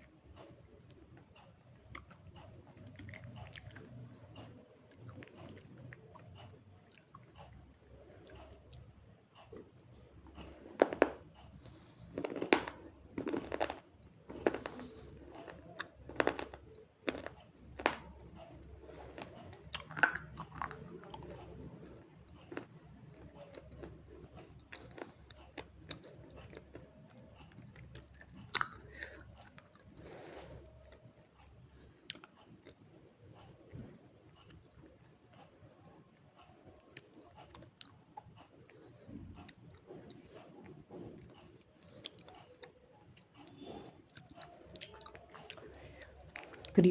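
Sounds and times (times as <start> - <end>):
soft mouth chewing: 0.0 - 46.9.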